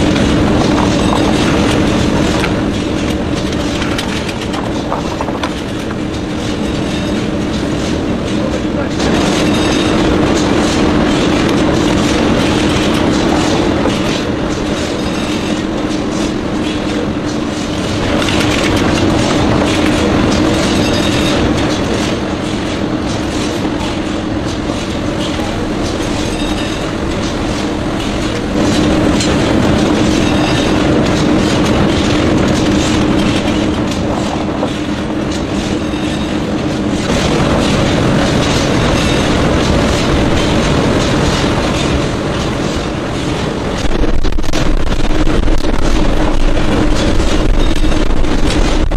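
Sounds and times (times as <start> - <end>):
machine rattling clatter: 0.0 - 48.9.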